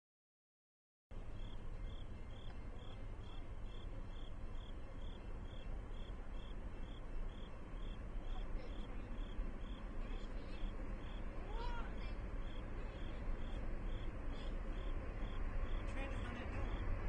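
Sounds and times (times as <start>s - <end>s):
faint low rumble: 1.1s - 17.0s
crickets chirping: 1.2s - 17.0s.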